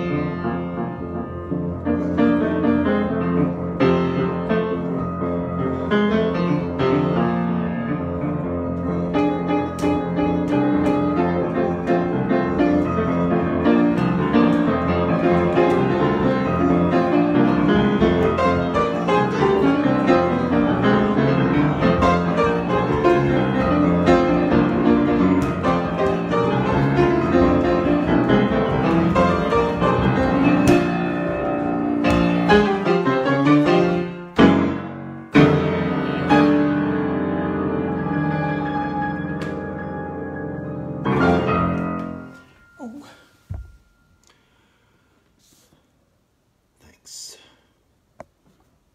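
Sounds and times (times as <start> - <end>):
loud piano chords: 0.0 - 44.6
grand piano improvisation: 0.0 - 44.8.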